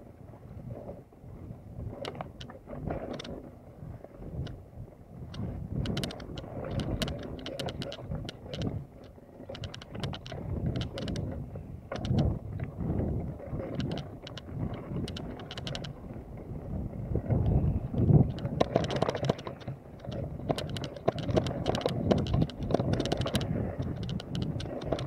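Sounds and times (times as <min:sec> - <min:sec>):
bike tyres rumbling on dirt: 0:00.0 - 0:25.0
wind on microphone: 0:00.0 - 0:25.0
bike clicking and rattling: 0:00.6 - 0:25.0.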